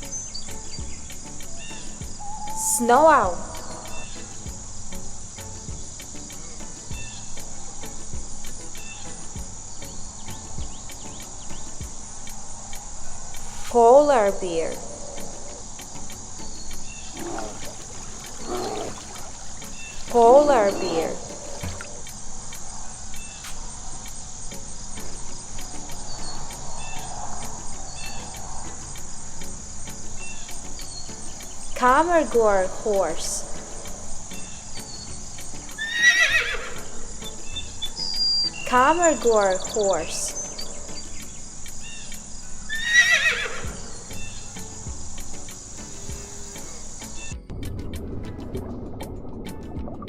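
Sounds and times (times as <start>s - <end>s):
whistled bird calls: 0.0s - 13.7s, 14.7s - 47.4s
crickets chirping: 0.0s - 47.4s.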